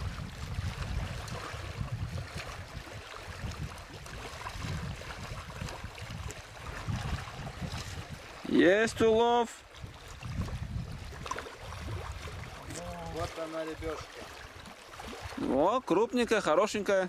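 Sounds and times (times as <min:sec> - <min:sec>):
wind rumbling on microphone: 0:00.0 - 0:15.7
small waves lapping: 0:00.0 - 0:17.0.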